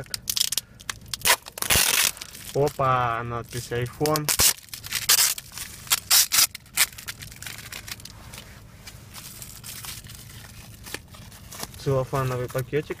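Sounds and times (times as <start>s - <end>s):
plastic wrap crinkling and tearing: 0.0s - 13.0s.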